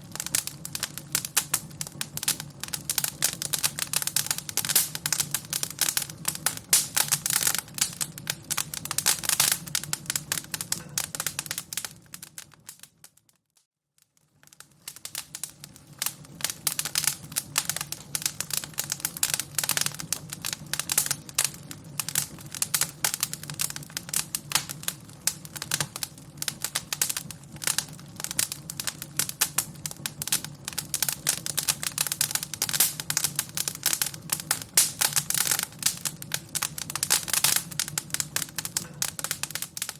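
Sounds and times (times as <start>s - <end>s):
fire crackling: 0.0s - 13.4s, 14.0s - 39.9s.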